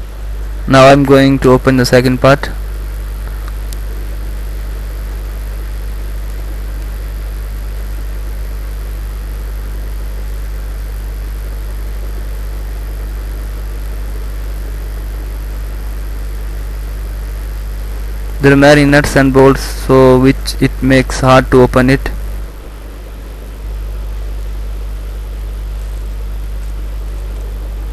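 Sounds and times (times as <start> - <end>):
even hiss: 0.0 - 27.9
low hum: 0.0 - 27.9.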